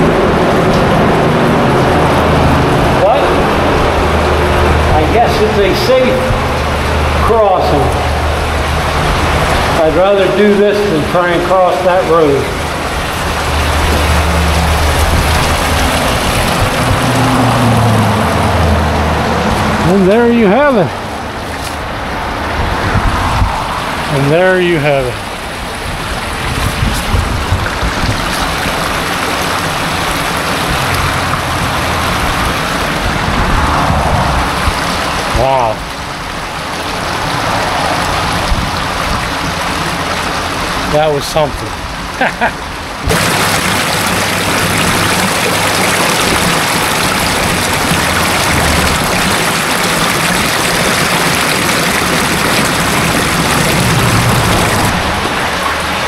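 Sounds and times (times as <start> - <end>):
stream rushing through a tunnel: 0.0 - 56.0
traffic hum: 0.0 - 56.0.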